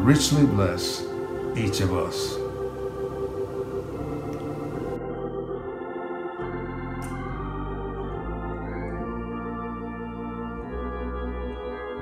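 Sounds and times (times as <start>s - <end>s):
organ chords: 0.0s - 12.0s.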